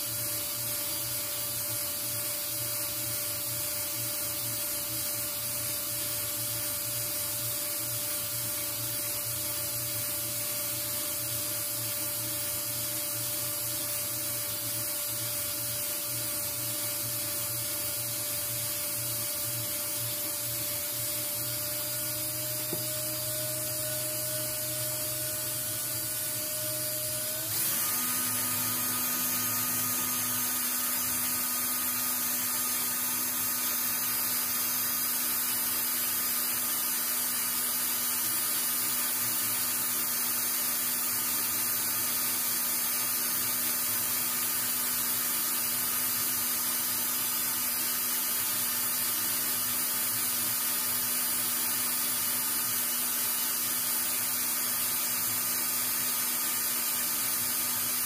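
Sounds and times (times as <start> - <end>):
small electric motor humming: 0.0 - 58.0.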